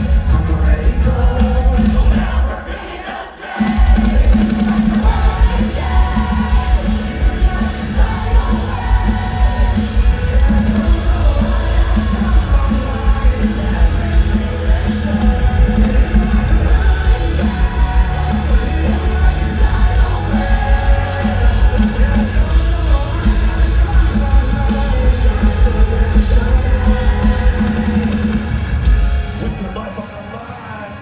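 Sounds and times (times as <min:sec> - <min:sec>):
sung and yelled vocals: 0:00.0 - 0:28.7
distorted guitars: 0:00.0 - 0:31.0
heavy drums: 0:00.0 - 0:31.0.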